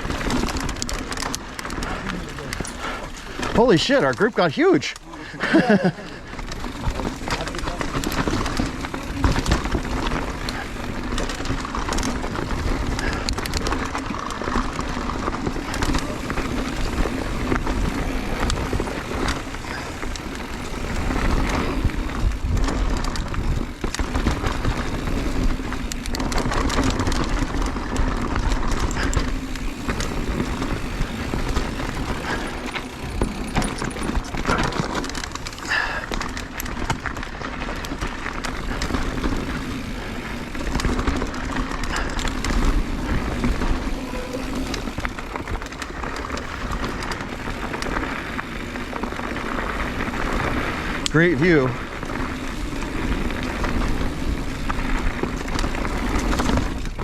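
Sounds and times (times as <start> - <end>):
bike clacks and rattles: 0.0 - 57.0
tyre and wind rush: 5.5 - 57.0.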